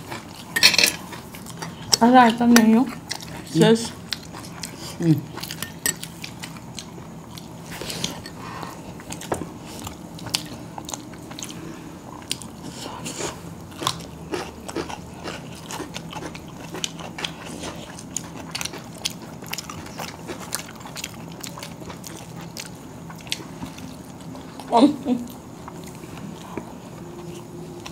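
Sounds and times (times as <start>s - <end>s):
low steady hum: 0.0s - 27.9s
people chewing: 0.0s - 27.9s.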